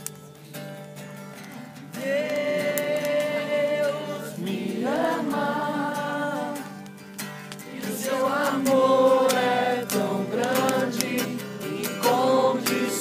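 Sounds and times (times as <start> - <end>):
strummed acoustic guitar: 0.0 - 13.0
group singing worship song: 1.9 - 6.9, 7.5 - 13.0.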